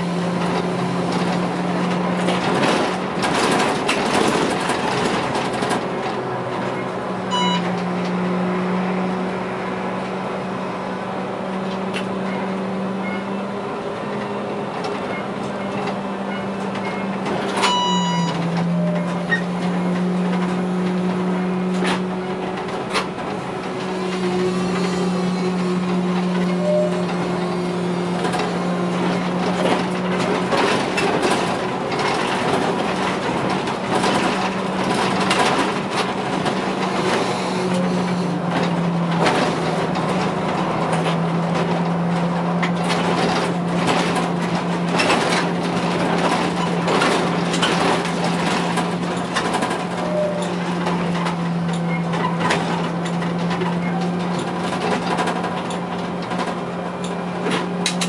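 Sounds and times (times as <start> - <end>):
trolleybus motor hum: 0.0 - 58.0
tyre and road noise: 0.0 - 58.0.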